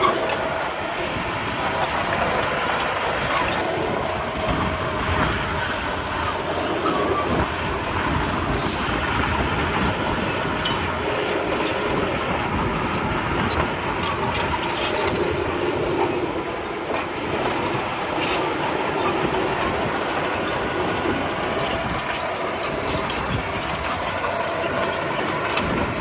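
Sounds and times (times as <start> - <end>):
bulldozer diesel engine running: 0.0 - 26.0
metallic clanks from tracks: 0.0 - 26.0.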